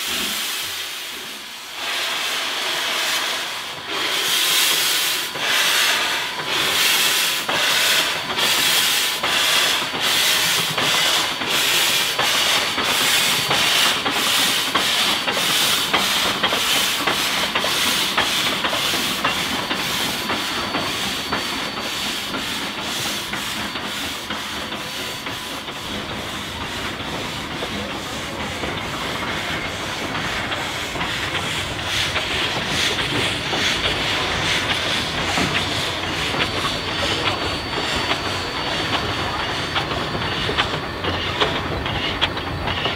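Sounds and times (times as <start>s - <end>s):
hissing steam jets: 0.0s - 42.9s
steam locomotive exhaust chuff: 0.0s - 42.9s.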